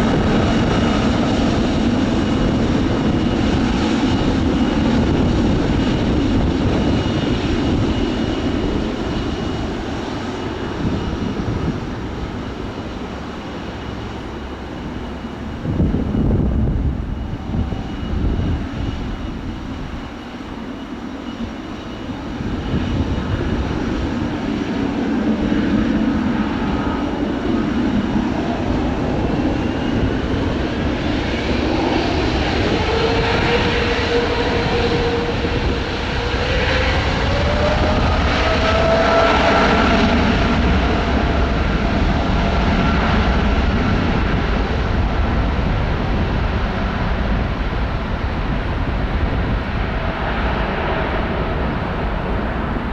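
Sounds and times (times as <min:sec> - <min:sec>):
jet engine roar: 0:00.0 - 0:52.9
rising turbine whine: 0:00.0 - 0:52.9.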